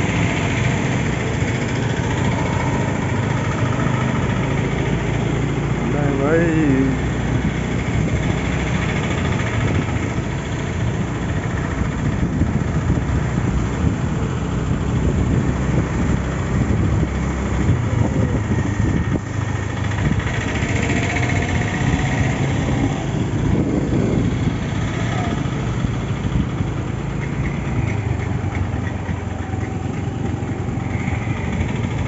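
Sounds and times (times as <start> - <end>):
motorbike engine running: 0.0 - 32.0
wind rumbling on microphone: 0.0 - 32.0.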